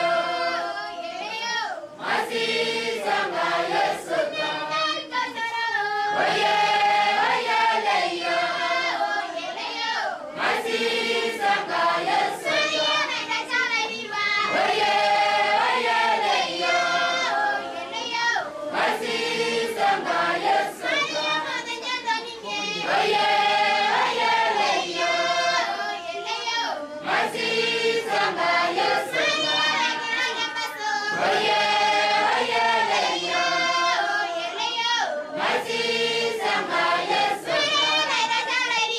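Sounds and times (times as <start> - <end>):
children singing together: 0.0 - 38.9.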